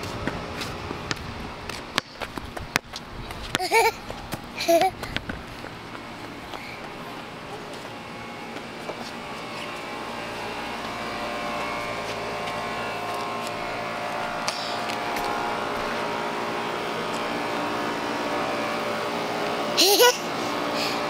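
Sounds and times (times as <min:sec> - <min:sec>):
mechanical drone: 0:02.7 - 0:21.0.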